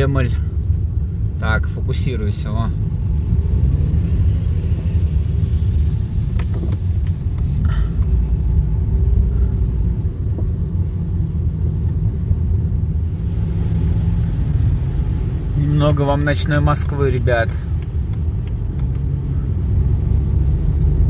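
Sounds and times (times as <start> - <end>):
car driving on wet road: 0.0 - 21.0.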